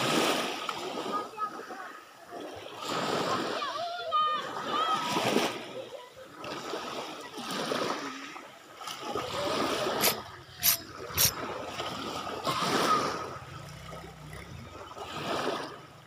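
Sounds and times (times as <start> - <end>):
waves washing on pebbly beach: 0.0 - 16.0.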